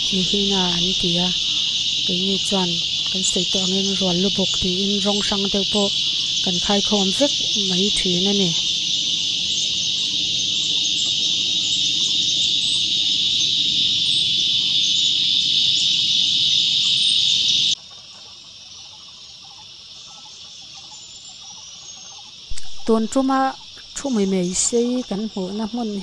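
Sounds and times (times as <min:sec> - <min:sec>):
forest insects droning: 0:00.0 - 0:26.0
quiet forest background: 0:00.0 - 0:26.0.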